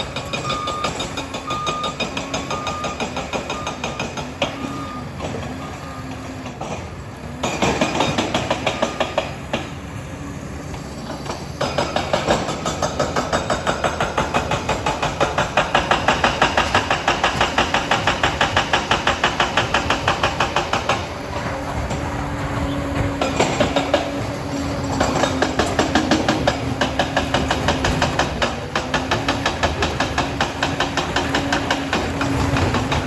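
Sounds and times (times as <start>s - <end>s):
dozer tracks clanking: 0.0s - 33.0s.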